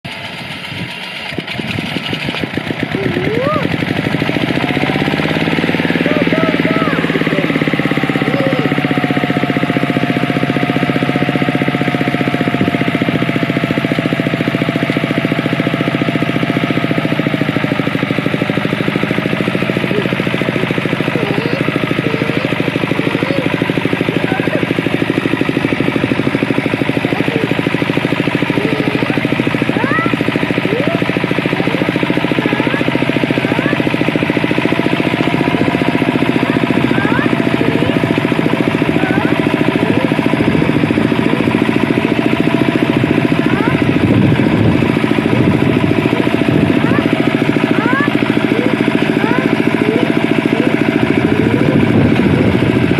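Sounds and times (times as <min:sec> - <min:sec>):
rotary tiller working soil: 0:00.0 - 0:52.9
tractor engine chugging: 0:00.0 - 0:52.9.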